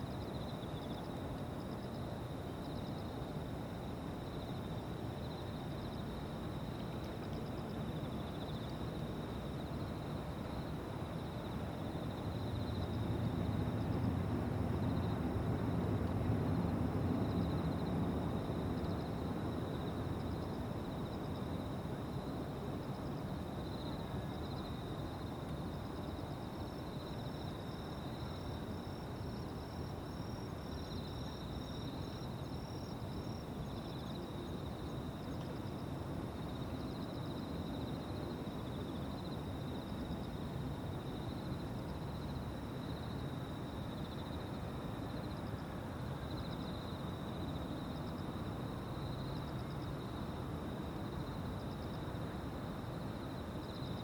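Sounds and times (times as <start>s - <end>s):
insects pulsing trill: 0.0s - 54.0s
soft outdoor noise: 0.0s - 54.0s.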